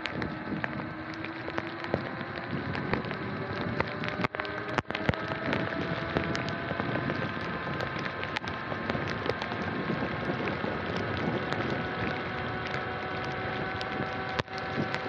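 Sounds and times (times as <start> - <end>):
rain tapping on microphone: 0.0 - 15.0.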